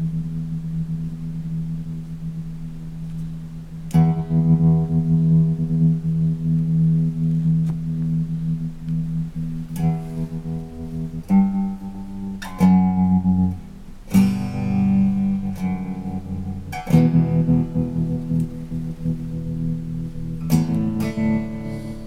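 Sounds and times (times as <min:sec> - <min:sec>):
electric guitar chords with tremolo: 0:00.0 - 0:22.0.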